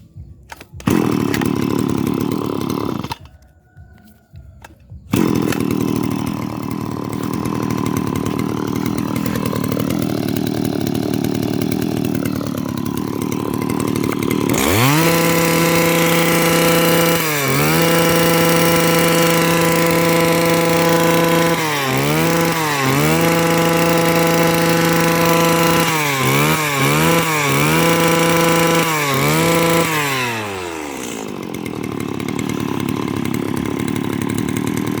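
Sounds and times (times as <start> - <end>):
brush cutter engine revving: 0.0 - 35.0.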